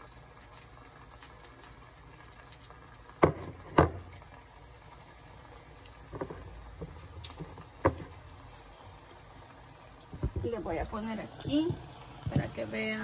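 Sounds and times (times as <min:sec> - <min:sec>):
hot oil sizzling in a pan: 0:00.0 - 0:13.0.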